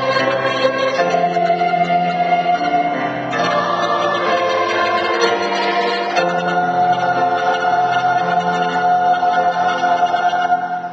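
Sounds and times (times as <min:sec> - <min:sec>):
choir holding a chord: 0:00.0 - 0:10.9.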